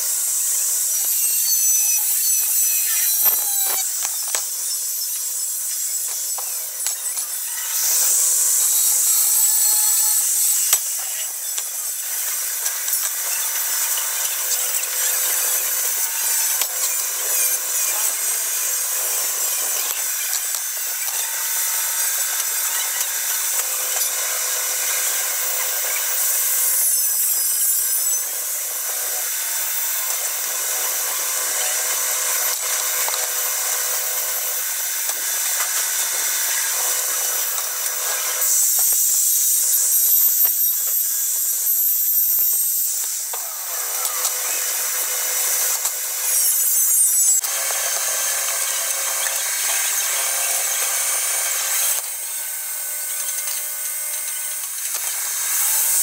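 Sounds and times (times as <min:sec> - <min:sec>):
tool rasping on metal: 0:00.0 - 0:28.3, 0:34.3 - 0:52.1
power tool whining: 0:00.0 - 0:56.0.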